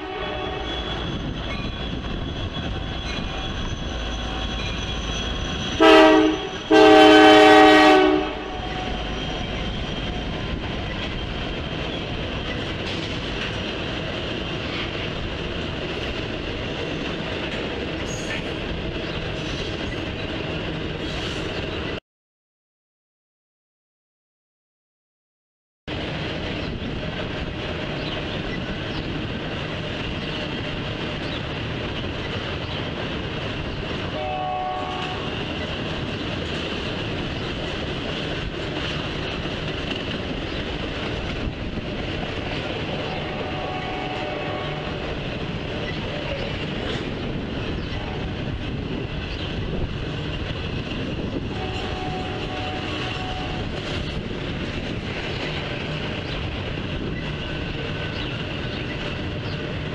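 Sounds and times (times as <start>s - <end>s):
train wheels clattering on rail: 0.0s - 22.0s, 25.9s - 59.9s.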